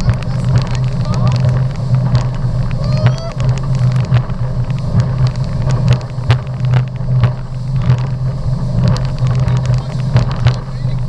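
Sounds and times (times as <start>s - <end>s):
short thumps: 0.0s - 10.8s
motorboat engine drone: 0.0s - 11.0s.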